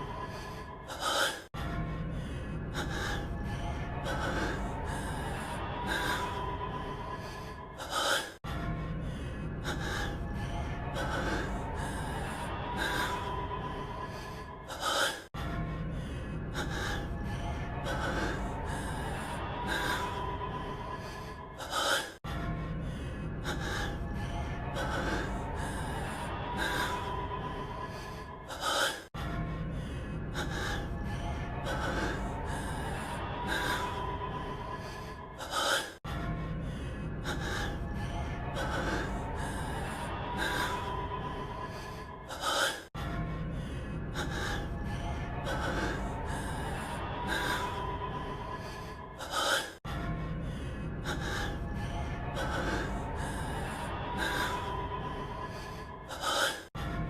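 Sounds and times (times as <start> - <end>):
man breathing heavily and gasping: 0.0 - 57.0.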